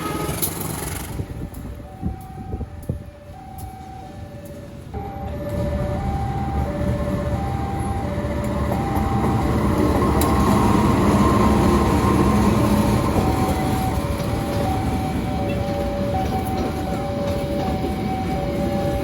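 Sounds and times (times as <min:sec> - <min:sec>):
train rumble: 0:00.0 - 0:19.0
two-tone level crossing alarm: 0:01.8 - 0:19.0.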